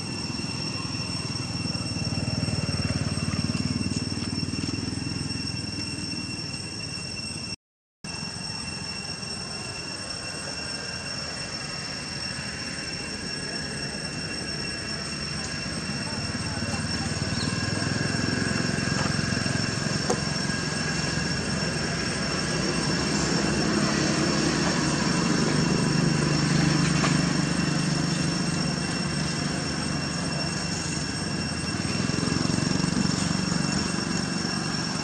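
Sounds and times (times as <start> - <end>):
high-pitched tones: 0.0 - 35.0.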